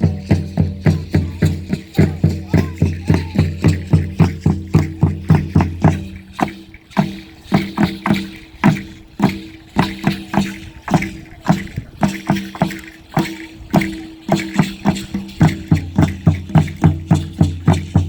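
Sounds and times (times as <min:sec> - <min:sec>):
drum dance rhythm: 0:00.0 - 0:18.0.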